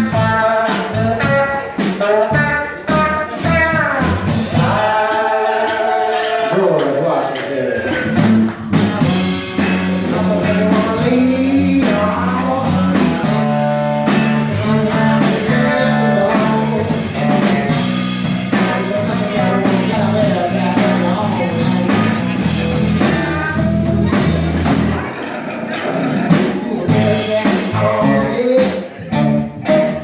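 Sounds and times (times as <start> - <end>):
person singing: 0.0 - 25.1, 26.4 - 30.0
live rock and roll band: 0.0 - 30.0
steady drum beat: 0.0 - 30.0.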